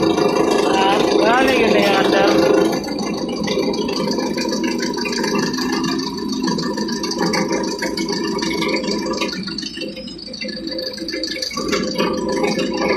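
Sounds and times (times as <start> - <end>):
engine rattling clatter: 0.0 - 12.9.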